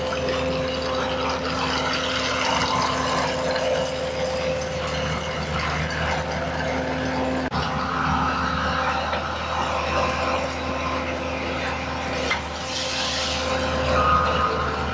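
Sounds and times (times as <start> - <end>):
constant tone: 0.0 - 14.9
skid steer engine running: 0.0 - 14.9.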